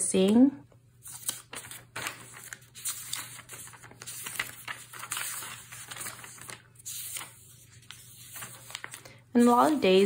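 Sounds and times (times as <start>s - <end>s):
paper rustling and crinkling: 1.0s - 10.0s.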